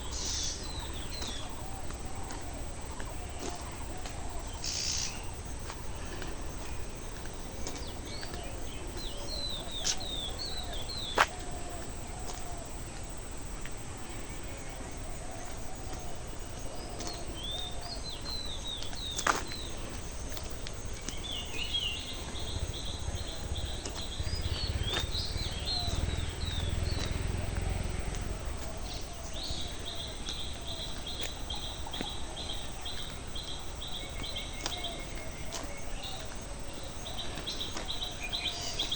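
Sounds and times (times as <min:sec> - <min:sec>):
low rumble of outdoor air: 0:00.0 - 0:38.9
small birds chirping: 0:00.0 - 0:38.9.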